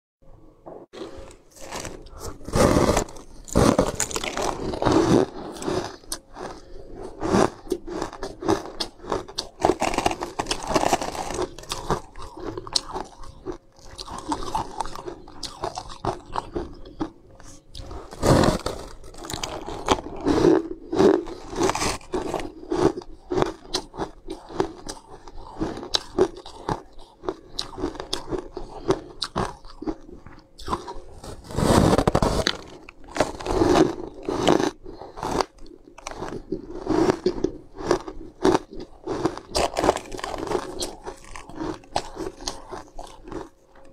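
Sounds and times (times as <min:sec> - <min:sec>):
crunching ice with teeth: 0:01.0 - 0:43.9.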